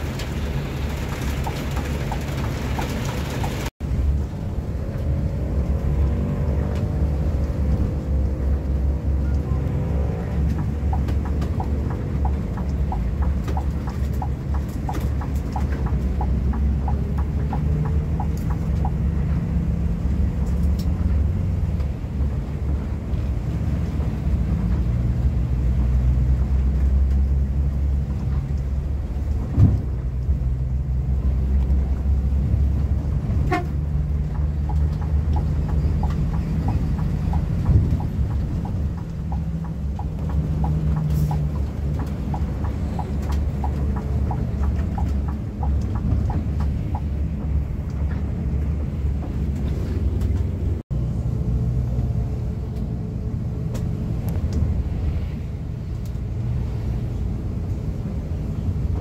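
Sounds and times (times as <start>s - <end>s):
diesel coach engine drone: 0.0s - 59.0s.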